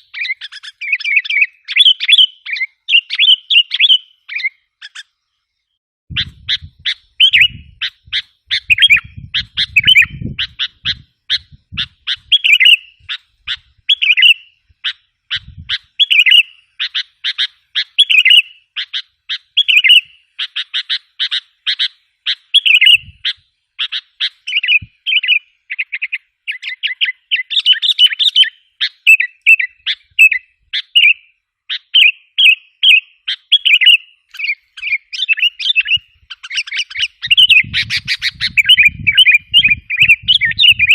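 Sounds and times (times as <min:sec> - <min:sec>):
bulbuls chirping: 0:00.0 - 0:05.4, 0:06.1 - 0:40.9.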